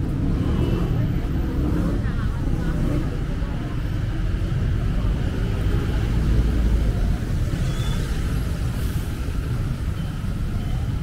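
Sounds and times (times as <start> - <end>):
bus passing close by: 0.0 - 11.0
traffic engines rumbling: 0.0 - 11.0.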